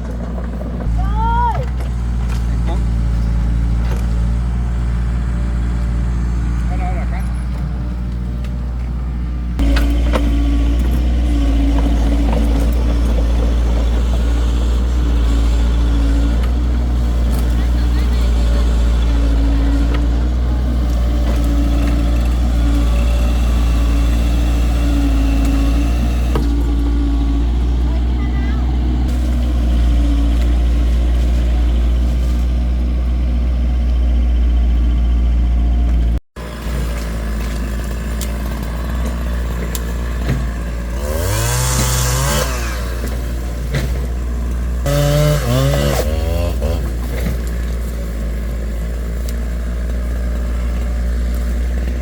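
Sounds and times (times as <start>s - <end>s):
engine droning: 0.0s - 52.0s.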